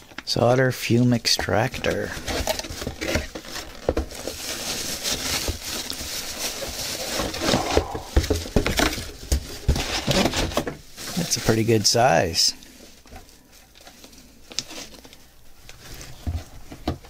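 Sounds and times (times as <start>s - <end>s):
plastic wrapping crinkling: 1.8s - 12.0s, 12.6s - 16.5s.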